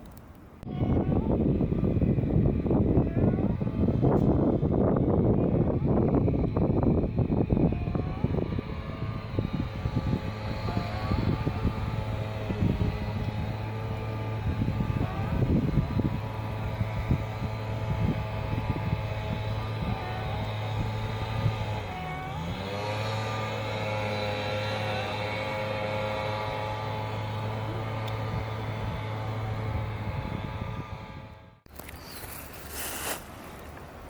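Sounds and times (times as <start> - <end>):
engine droning hum: 0.0 - 34.0.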